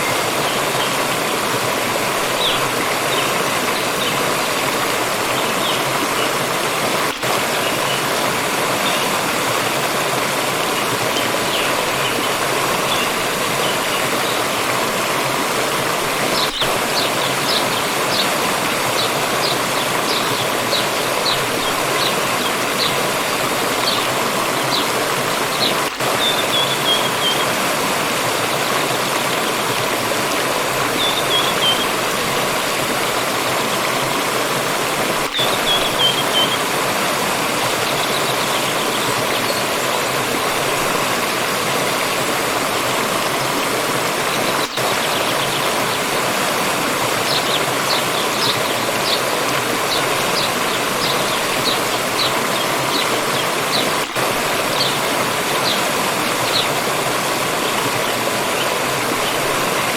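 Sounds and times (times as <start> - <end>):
water stream rushing: 0.0 - 59.9.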